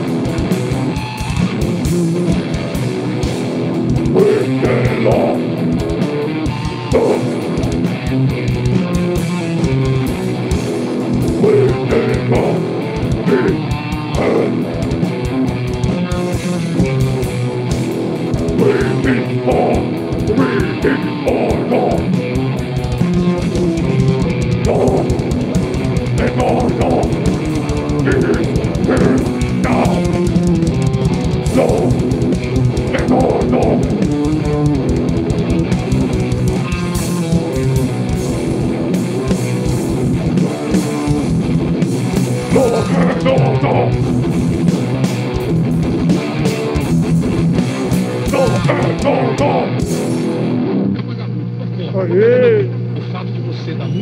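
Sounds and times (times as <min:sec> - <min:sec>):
fast drumming on drum kit: 0:00.0 - 0:50.5
electric guitar: 0:00.0 - 0:54.0.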